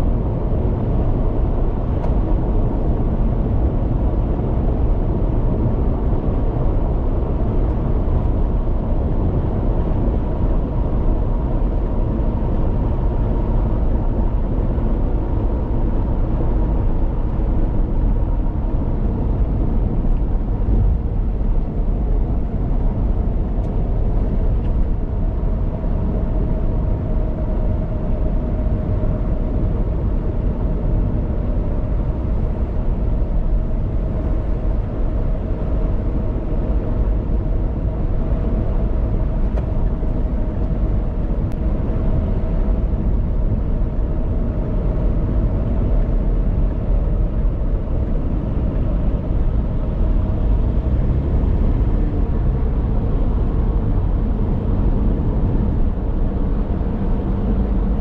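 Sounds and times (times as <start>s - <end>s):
car engine cruising: 0.0s - 58.0s
road and tyre noise: 0.0s - 58.0s.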